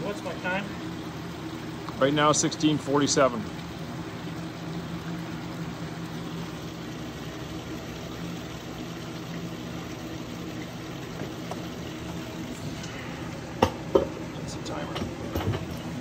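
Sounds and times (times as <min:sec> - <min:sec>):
low mechanical hum with hiss: 0:00.0 - 0:16.0.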